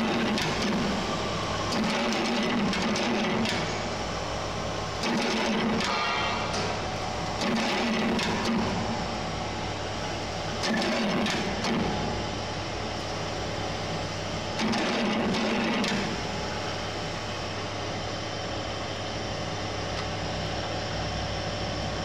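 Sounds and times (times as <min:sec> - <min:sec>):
motor and belt drive humming: 0:00.0 - 0:22.0.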